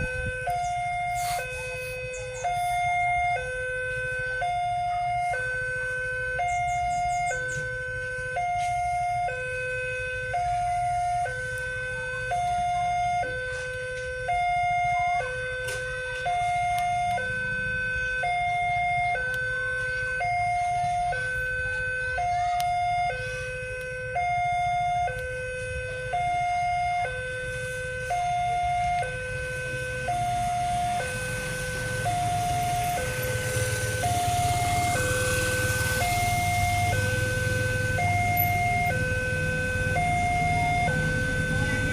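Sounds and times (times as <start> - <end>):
level crossing two-tone alarm: 0.0 - 41.9
low engine rumble: 0.0 - 41.9.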